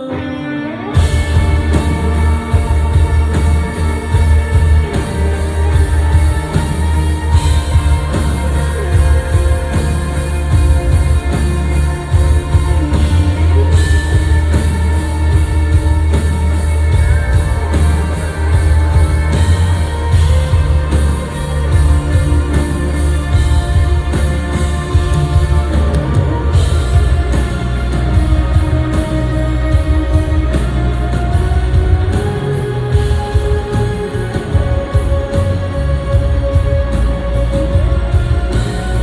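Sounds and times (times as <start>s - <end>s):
live pop-rock band: 0.0s - 39.0s.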